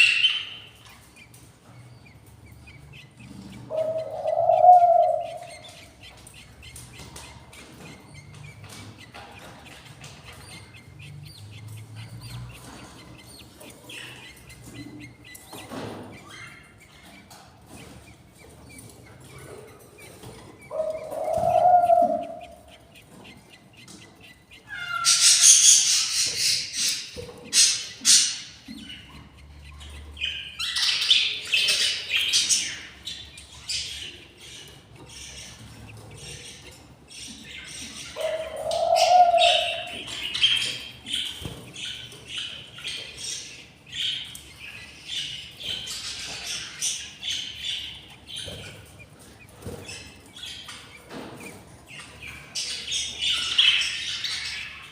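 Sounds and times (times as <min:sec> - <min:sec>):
budgies chirping and chattering: 0:00.0 - 0:54.9.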